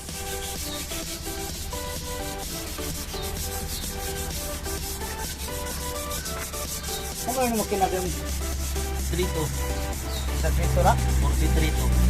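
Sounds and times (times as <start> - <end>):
background music: 0.0 - 12.0
hand scraping on engine: 0.0 - 12.0.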